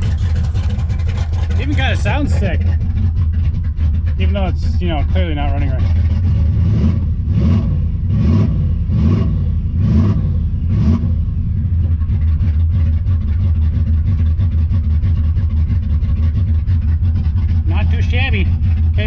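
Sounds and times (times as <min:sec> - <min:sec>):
car engine running rough: 0:00.0 - 0:19.0.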